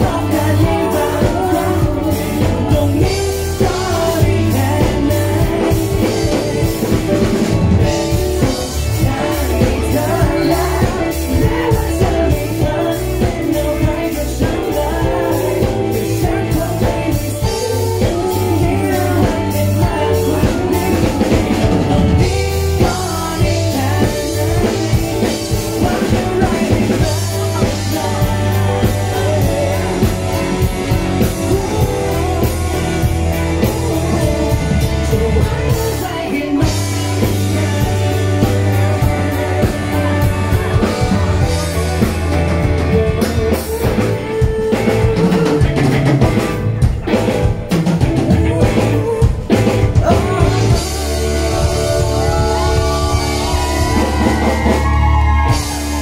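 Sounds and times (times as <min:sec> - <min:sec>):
man singing into microphone: 0:00.0 - 0:47.2, 0:47.8 - 0:56.0
pop-rock drums and guitar: 0:00.0 - 0:56.0.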